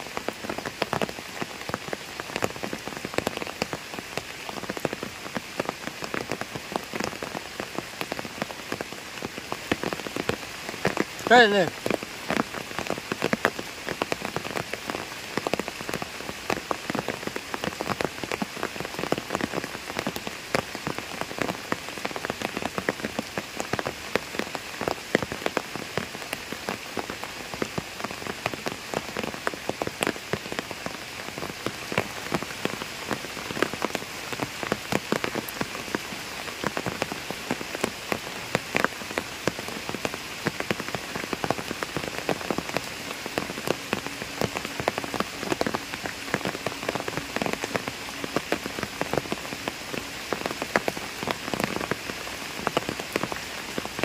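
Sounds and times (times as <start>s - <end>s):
rain falling on a pond: 0.0s - 54.0s.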